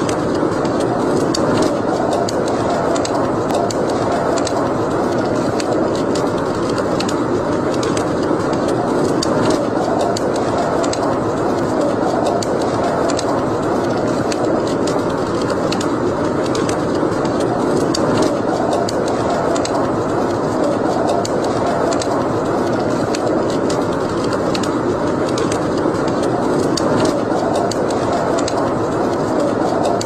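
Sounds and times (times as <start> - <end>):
fire crackling and popping: 0.0 - 30.0
fire rushing: 0.0 - 30.0.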